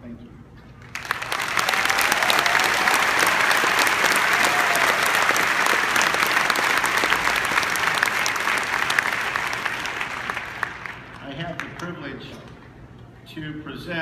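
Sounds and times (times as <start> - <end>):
large crowd applauding: 0.8 - 12.2.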